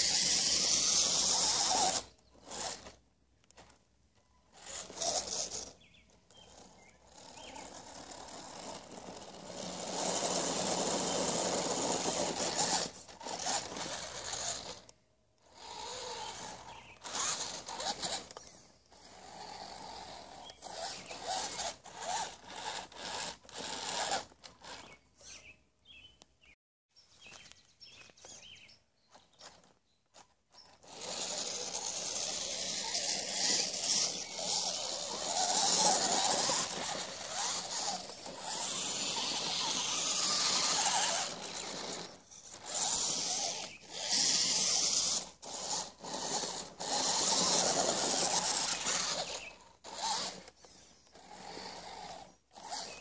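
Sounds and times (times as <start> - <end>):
toy car motor and gears whirring: 0.0 - 26.1, 27.2 - 53.0.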